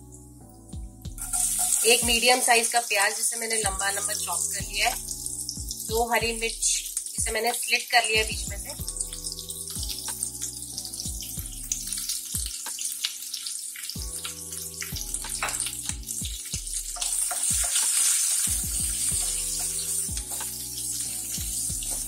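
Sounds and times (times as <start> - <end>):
onion sizzling in hot oil: 0.2 - 22.0.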